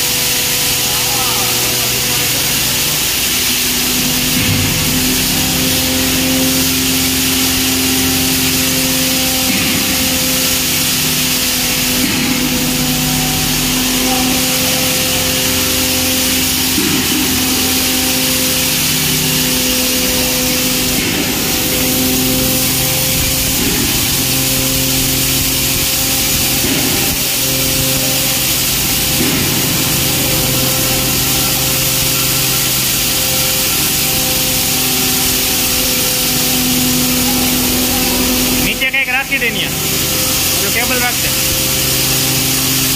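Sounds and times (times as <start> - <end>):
grinding mill running: 0.0 - 42.9.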